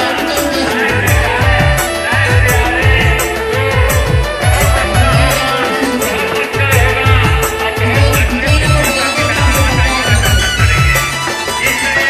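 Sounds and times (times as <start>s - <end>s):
sustained melody: 0.0s - 12.0s.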